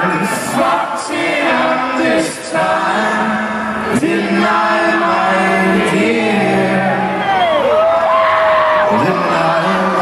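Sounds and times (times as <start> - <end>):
group singing in harmony: 0.0 - 7.6, 8.6 - 10.0.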